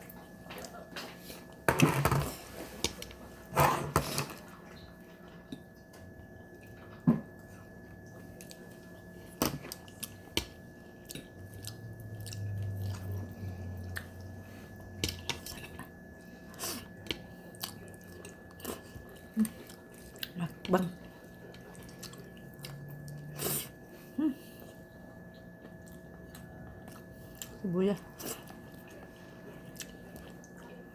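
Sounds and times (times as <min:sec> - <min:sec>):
chewing and smacking food: 0:00.0 - 0:01.7, 0:04.4 - 0:24.0, 0:24.6 - 0:30.9.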